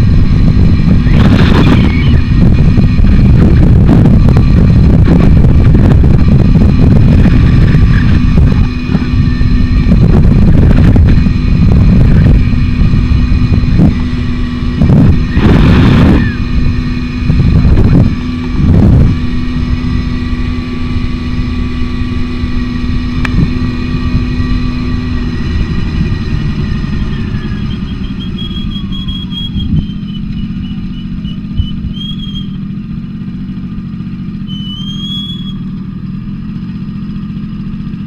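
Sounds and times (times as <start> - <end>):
low rushing noise: 0.0 - 34.0
moped engine running: 0.0 - 38.0.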